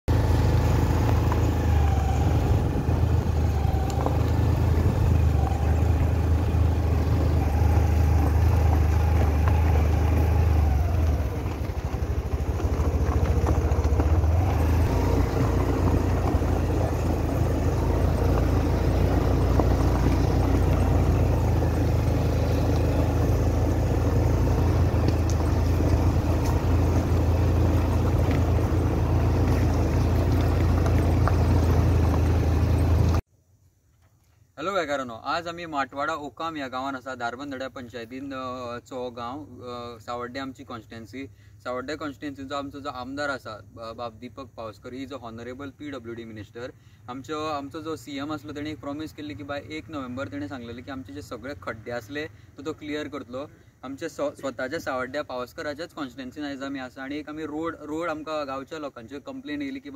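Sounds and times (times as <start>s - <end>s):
motorcycle engine rumbling: 0.0s - 33.3s, 35.2s - 59.9s
road noise: 0.0s - 33.3s, 34.6s - 59.9s
wind: 0.0s - 59.9s.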